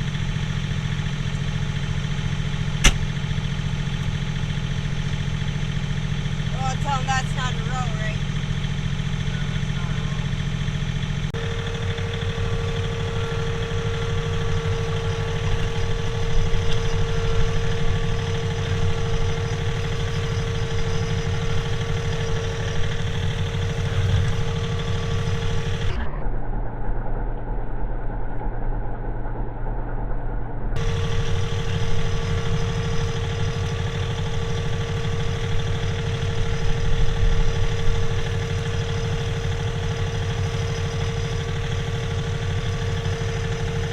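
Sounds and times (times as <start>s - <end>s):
tractor diesel engine running: 0.0s - 26.2s, 30.8s - 43.9s
steady whine: 0.0s - 43.9s.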